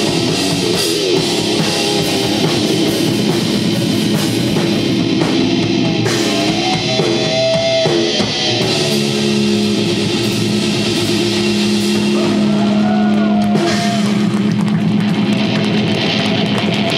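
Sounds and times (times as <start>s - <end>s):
metal band playing: 0.0s - 16.9s.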